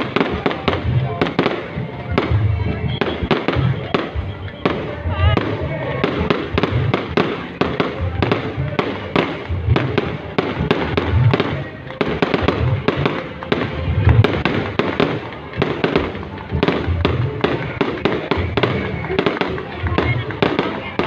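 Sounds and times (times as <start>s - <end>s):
fireworks booms: 0.0s - 21.0s
fireworks cracking: 0.0s - 21.0s.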